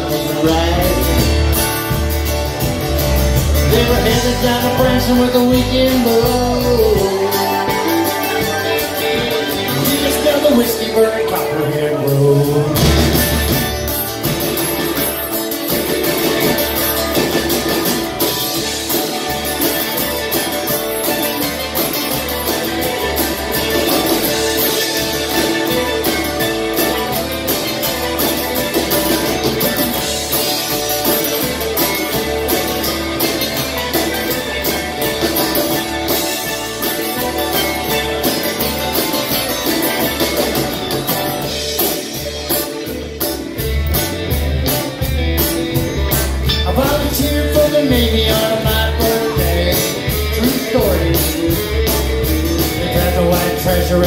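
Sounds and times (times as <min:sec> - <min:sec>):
live band playing: 0:00.0 - 0:54.0.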